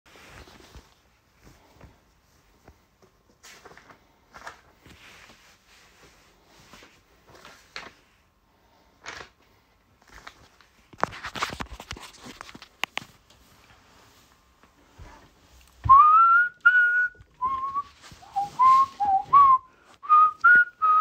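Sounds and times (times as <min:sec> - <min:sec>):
rustling: 0:00.1 - 0:21.0.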